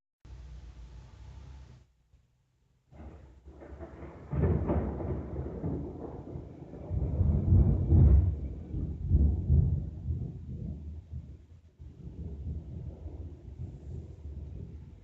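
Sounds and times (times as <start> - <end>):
rolling thunder: 3.0 - 15.0.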